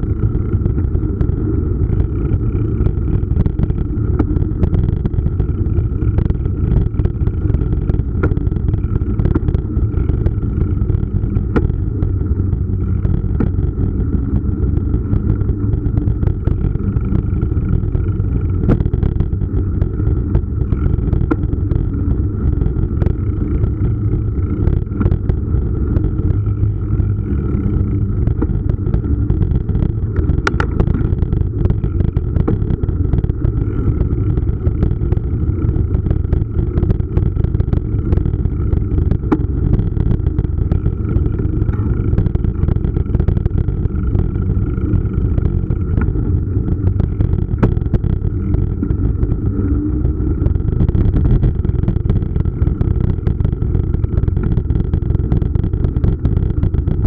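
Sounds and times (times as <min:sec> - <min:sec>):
faint steady whine: 0:00.0 - 0:57.0
wind and ride vibration rumble: 0:00.0 - 0:57.0.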